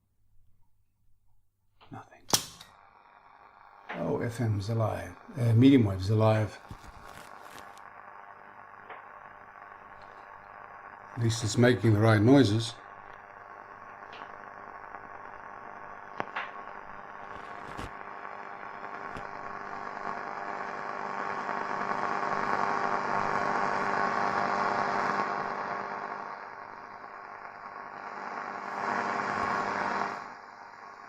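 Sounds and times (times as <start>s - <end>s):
radio static hiss: 1.9s - 31.0s
steady hum: 1.9s - 31.0s.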